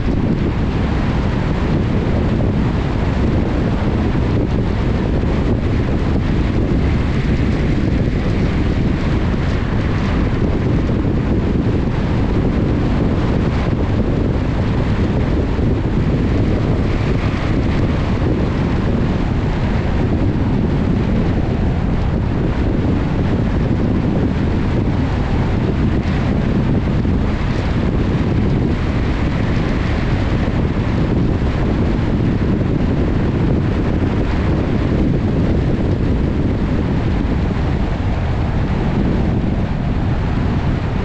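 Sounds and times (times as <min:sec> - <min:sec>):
road and engine rumble: 0:00.0 - 0:41.0
wind rumble on microphone: 0:00.0 - 0:41.0.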